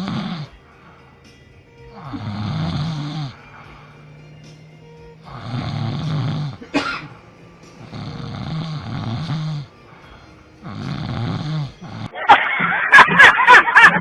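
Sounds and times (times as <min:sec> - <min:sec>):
person snoring: 0:00.0 - 0:12.2.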